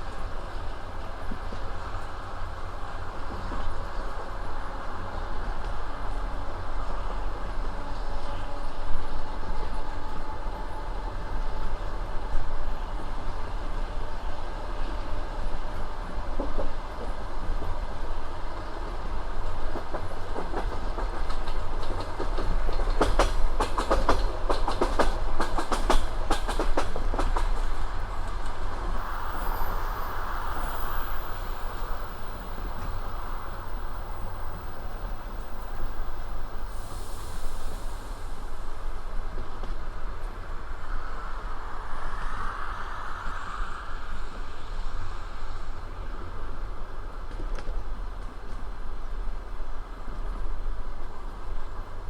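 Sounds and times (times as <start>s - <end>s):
train carriage rumble: 0.0s - 52.0s.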